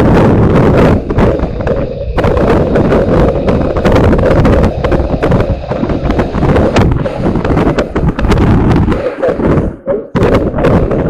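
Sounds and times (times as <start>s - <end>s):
loud continuous rumbling: 0.0s - 11.0s.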